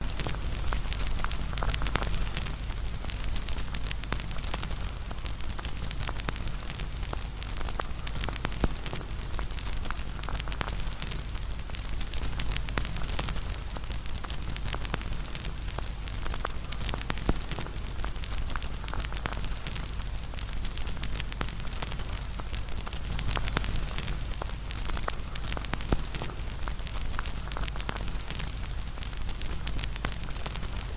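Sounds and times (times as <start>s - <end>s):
fire crackling and popping: 0.0s - 30.9s.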